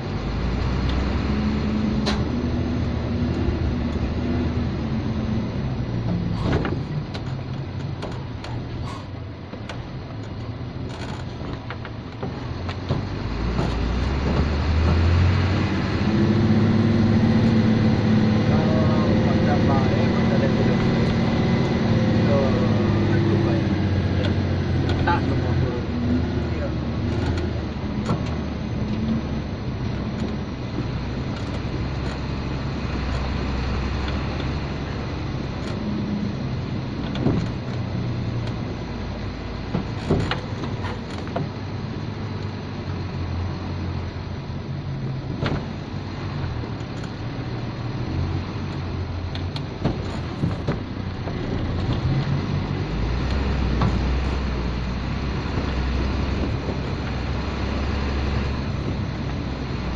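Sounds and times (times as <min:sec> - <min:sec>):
diesel truck engine running: 0:00.0 - 0:59.9
road noise: 0:00.0 - 0:59.9
cab knocks and rattles: 0:05.6 - 0:43.6, 0:44.8 - 0:59.9.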